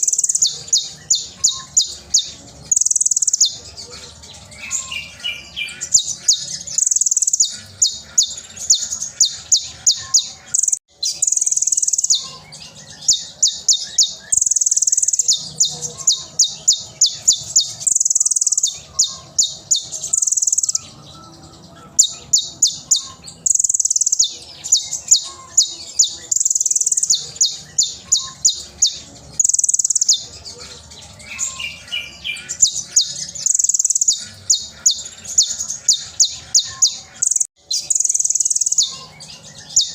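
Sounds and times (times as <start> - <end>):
sunbird singing high chirps: 0.0 - 39.9.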